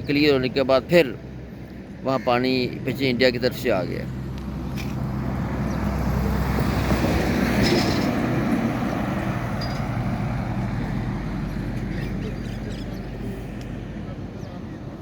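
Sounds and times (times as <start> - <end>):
road traffic going by: 0.0 - 15.0.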